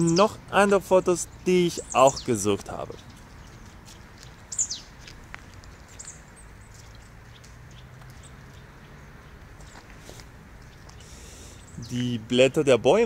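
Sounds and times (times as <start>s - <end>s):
bird chirping: 0.0s - 13.0s
outdoor background noise: 0.0s - 13.0s.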